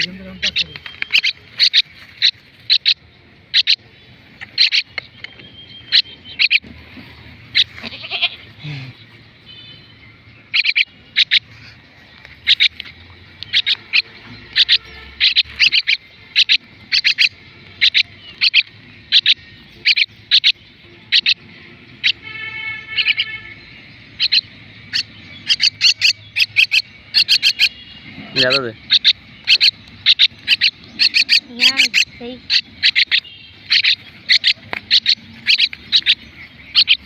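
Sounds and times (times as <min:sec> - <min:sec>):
bird chicks chirping: 0:00.0 - 0:37.0
buzzy bird call: 0:00.0 - 0:37.0.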